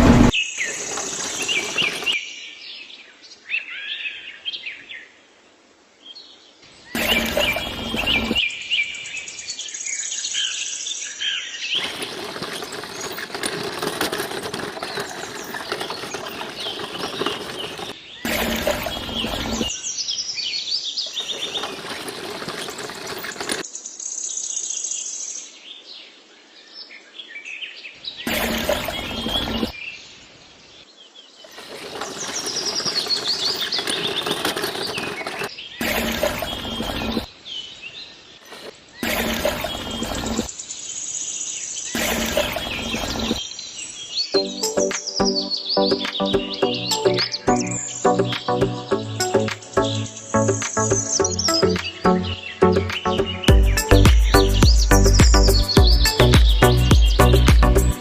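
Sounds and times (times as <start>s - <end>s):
birds chirping: 0.0s - 5.0s, 6.4s - 25.1s, 27.2s - 58.0s.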